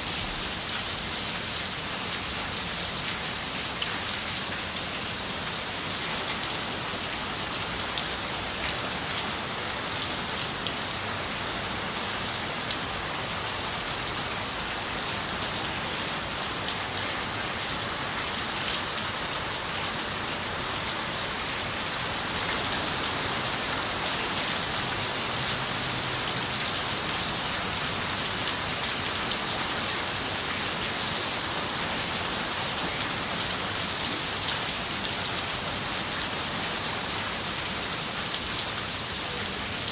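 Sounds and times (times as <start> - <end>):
rain hissing on a window: 0.1 - 39.9.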